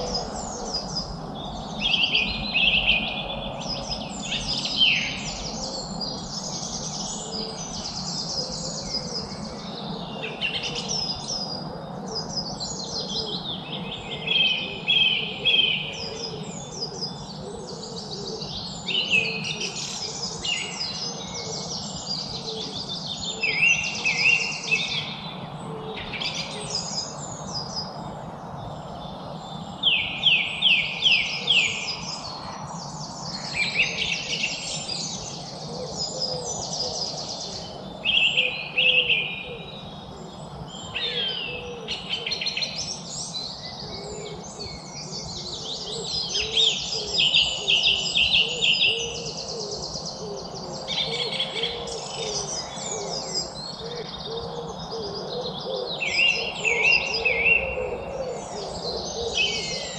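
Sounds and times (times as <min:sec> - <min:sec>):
low background noise: 0:00.0 - 0:59.9
songbirds singing and chirping: 0:00.0 - 0:59.9.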